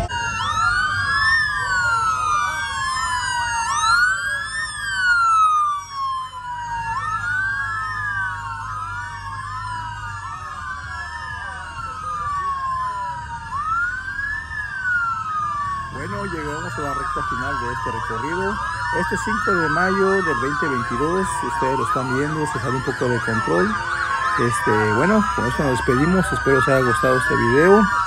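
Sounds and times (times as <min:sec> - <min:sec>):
police sirens wailing: 0:00.0 - 0:28.0.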